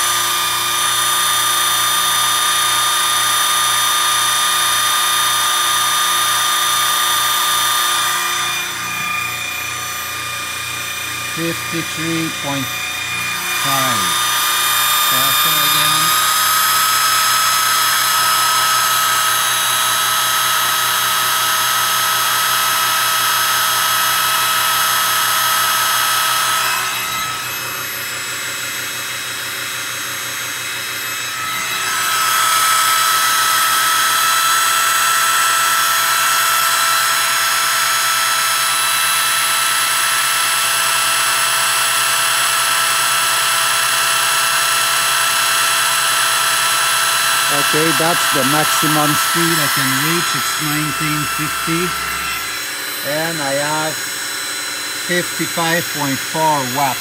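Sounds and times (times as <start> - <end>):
electric drill high whine: 0.0 - 57.0.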